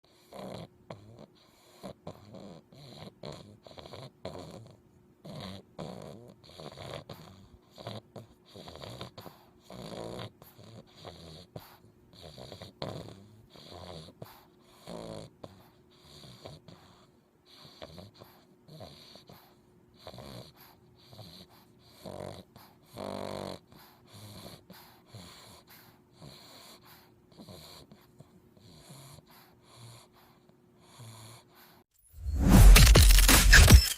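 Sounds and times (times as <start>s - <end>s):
puppy snoring: 0.0s - 31.9s.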